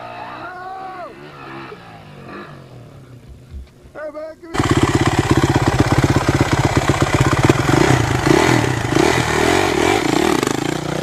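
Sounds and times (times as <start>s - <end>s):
motorcycle engine revving: 0.0s - 3.9s, 4.5s - 11.0s.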